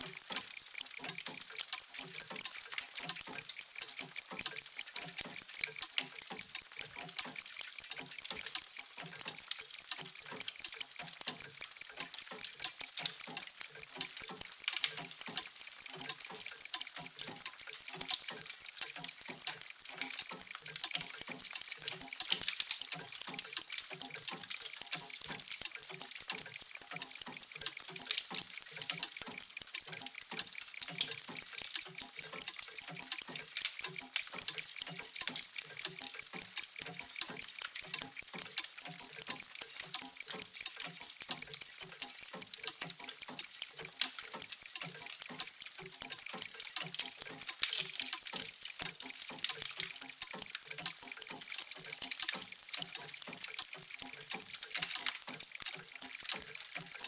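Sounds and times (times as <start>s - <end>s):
mechanical clocks ticking: 0.0s - 57.0s
soft low clock tocks: 0.0s - 57.0s.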